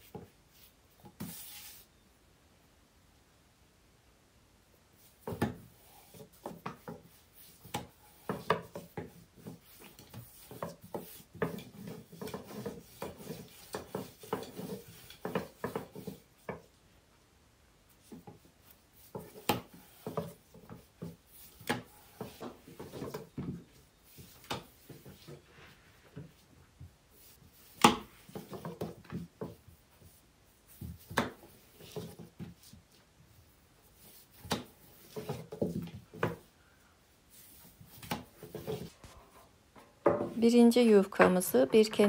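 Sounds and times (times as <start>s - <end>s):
rolling pin rubbing on dough: 0.0s - 1.9s, 5.0s - 16.8s, 17.9s - 36.6s, 37.2s - 39.4s.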